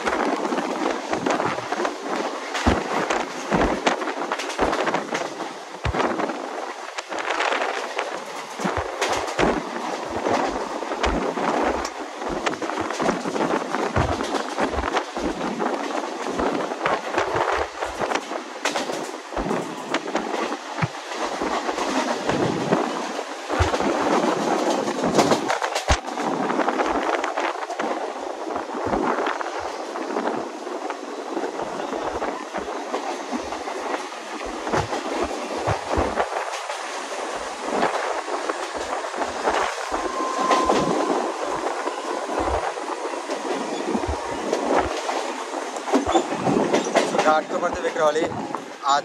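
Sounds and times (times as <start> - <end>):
wheels clattering over rails: 0.0 - 28.0, 28.8 - 49.0
train rumbling along track: 0.0 - 49.0.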